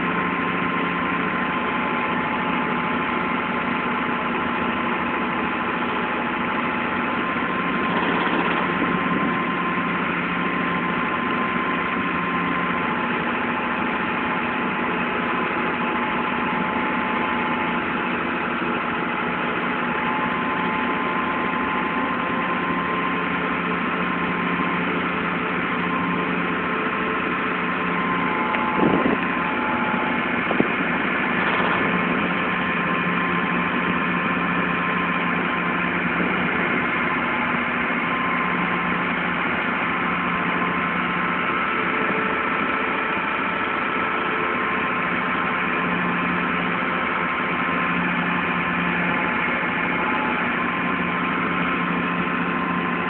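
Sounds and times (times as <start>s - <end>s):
tractor diesel engine running: 0.0s - 53.0s
steady whine: 6.4s - 13.4s, 15.9s - 53.0s.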